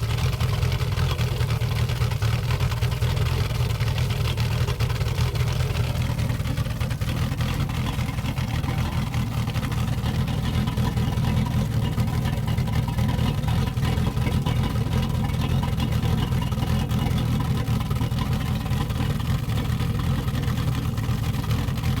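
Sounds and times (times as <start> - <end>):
boat engine exhaust: 0.0 - 22.0.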